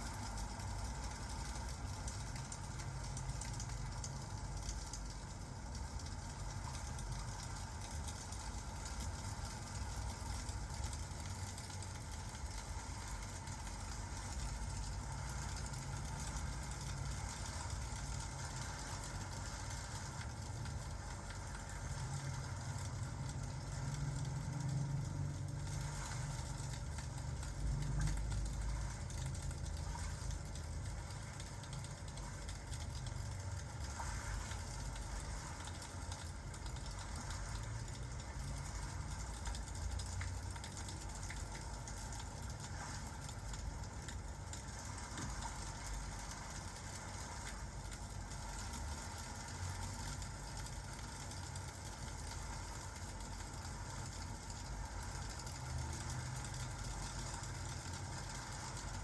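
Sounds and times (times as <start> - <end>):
fireplace crackling: 0.0 - 59.0
rain hiss: 0.0 - 59.0.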